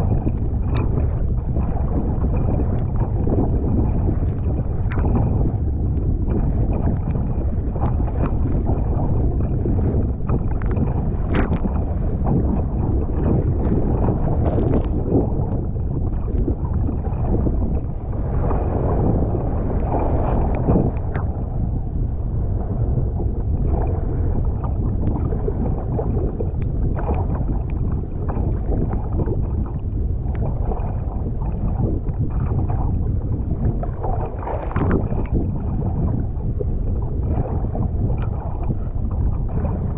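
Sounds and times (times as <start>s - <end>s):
water rushing and splashing: 0.0s - 39.9s
wind rumble on microphone: 0.0s - 39.9s.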